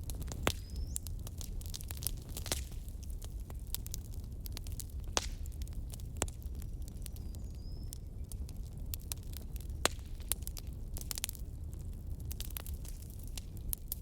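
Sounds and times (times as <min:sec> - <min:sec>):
low rumble of flames: 0:00.0 - 0:14.0
wood crackling and popping: 0:00.0 - 0:14.0.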